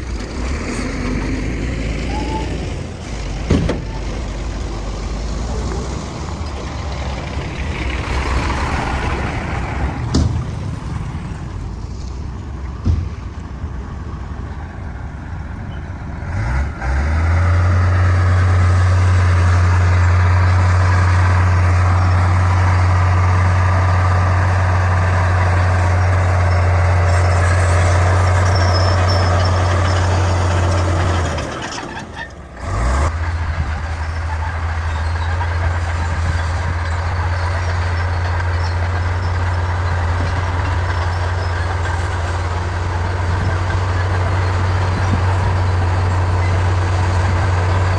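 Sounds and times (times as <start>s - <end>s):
bulldozer diesel engine under load: 0.0s - 47.9s.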